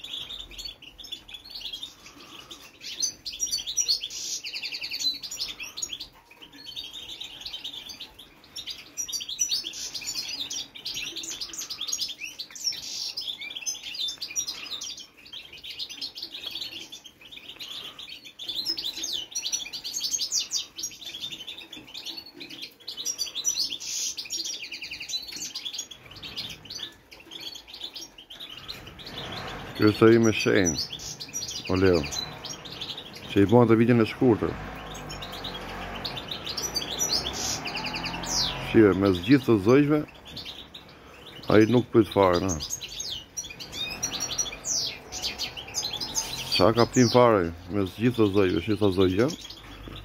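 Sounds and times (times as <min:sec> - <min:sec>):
finches singing: 0:00.0 - 0:50.0.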